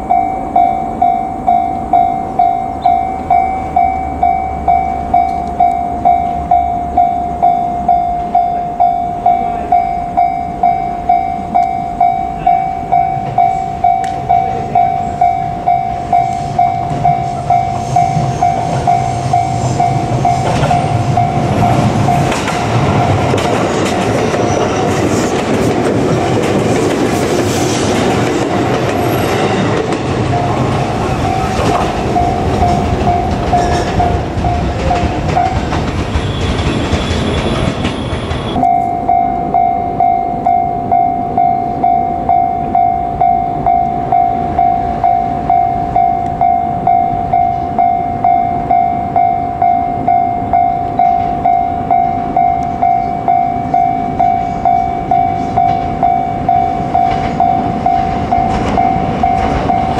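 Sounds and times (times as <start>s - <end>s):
level crossing bell ringing: 0.0s - 25.0s, 28.3s - 36.0s, 38.4s - 59.9s
train rumbling and clacking: 0.0s - 59.9s.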